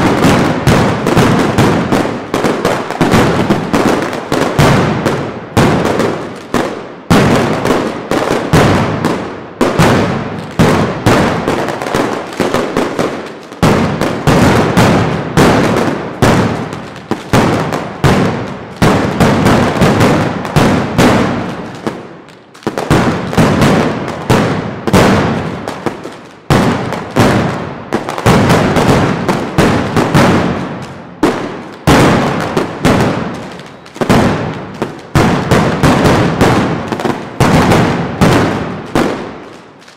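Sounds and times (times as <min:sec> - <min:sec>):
firecrackers banging rapidly: 0:00.0 - 0:39.9.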